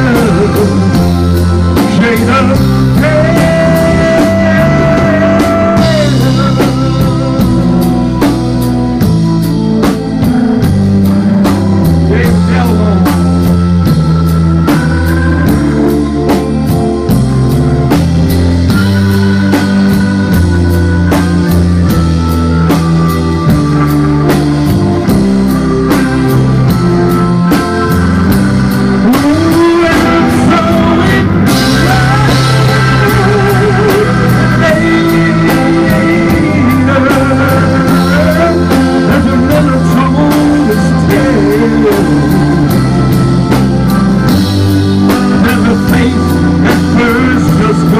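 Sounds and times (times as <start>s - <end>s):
drum kit beat: 0.0s - 47.9s
gliding guitar lead line: 0.0s - 47.9s
held bass notes: 0.0s - 47.9s
live rock band playing: 0.0s - 47.9s.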